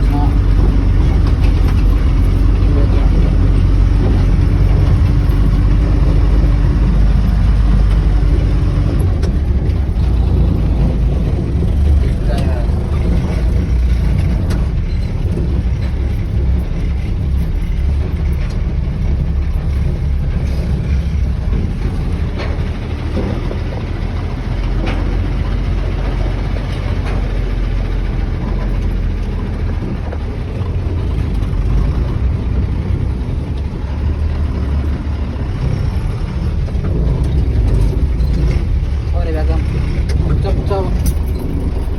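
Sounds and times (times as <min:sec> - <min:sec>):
engine and road rumble: 0:00.0 - 0:41.9.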